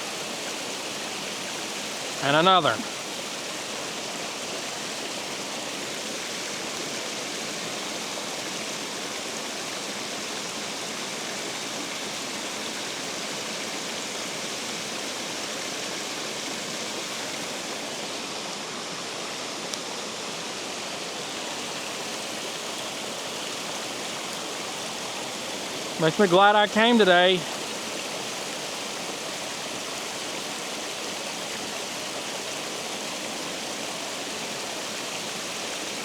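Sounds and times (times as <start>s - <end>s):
water rushing through spillway: 0.0s - 36.0s.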